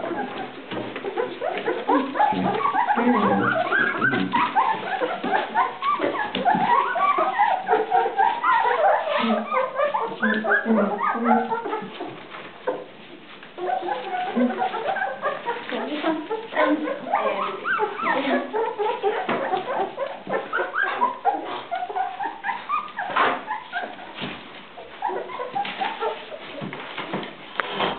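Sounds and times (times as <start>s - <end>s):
puppies squeaking and whimpering: 0.0s - 27.9s.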